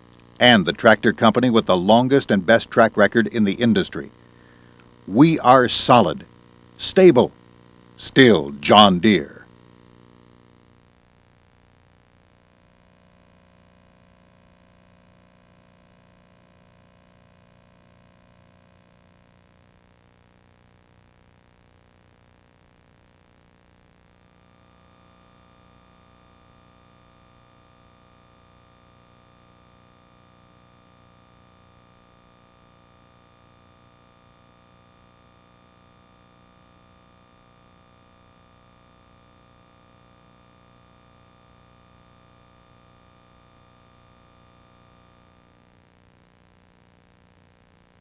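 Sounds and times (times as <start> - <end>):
electrical hum and hiss: 0.0 - 48.0.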